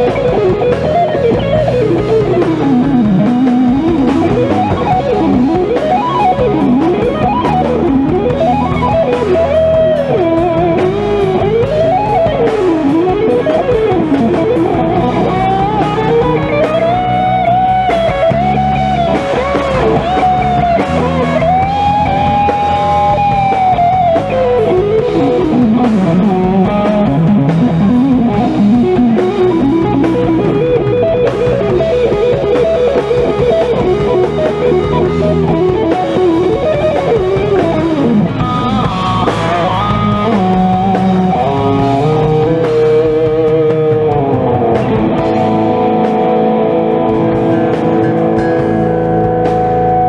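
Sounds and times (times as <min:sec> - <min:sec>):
bass guitar: 0:00.0 - 0:50.0
drums: 0:00.0 - 0:50.0
lead electric guitar: 0:00.0 - 0:50.0.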